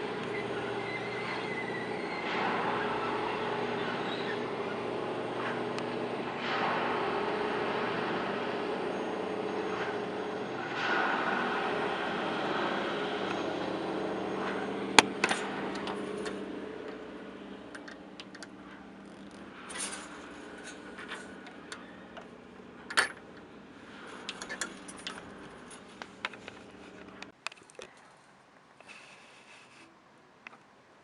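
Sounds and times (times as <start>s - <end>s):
droning hum with low tones: 0.0s - 27.3s.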